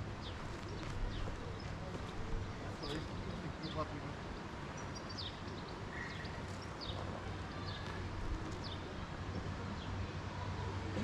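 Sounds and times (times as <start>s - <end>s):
birds chirping: 0.0s - 10.7s.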